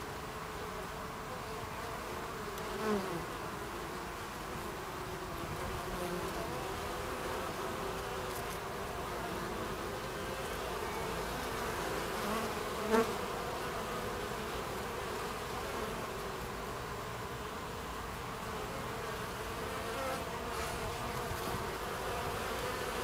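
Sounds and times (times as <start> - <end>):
bees buzzing at a hive: 0.0 - 23.0.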